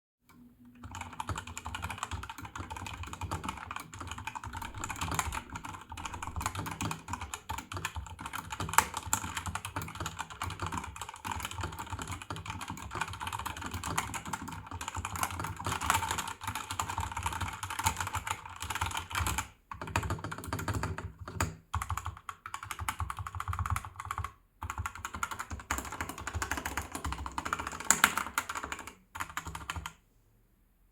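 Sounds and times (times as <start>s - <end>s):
mechanical keyboard typing: 0.8s - 30.0s.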